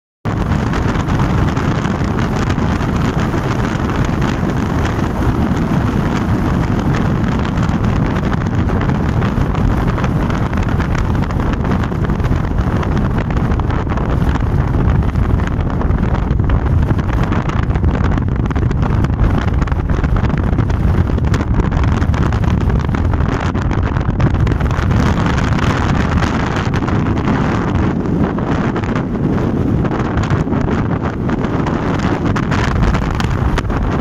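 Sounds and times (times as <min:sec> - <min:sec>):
strong wind buffeting microphone: 0:00.2 - 0:34.0.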